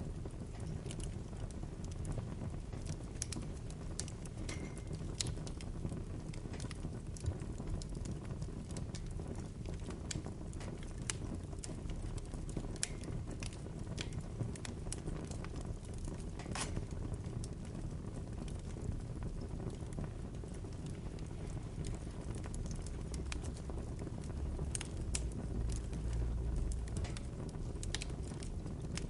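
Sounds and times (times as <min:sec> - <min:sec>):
burning wood popping: 0:00.0 - 0:29.0
fire flames burning: 0:00.0 - 0:29.0.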